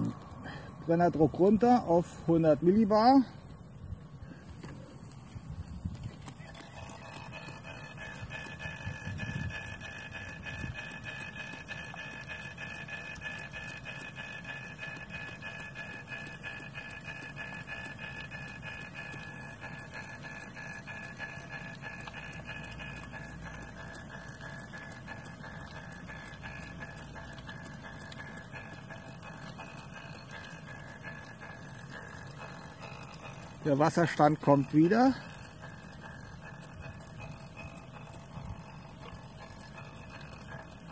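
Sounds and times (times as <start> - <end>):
model steam engine beating: 0.8 - 3.3, 6.4 - 40.9
steam hissing: 6.7 - 40.9.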